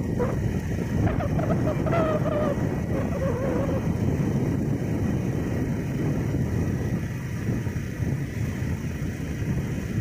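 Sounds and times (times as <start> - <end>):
motorcycle engine and wind: 0.0 - 10.0.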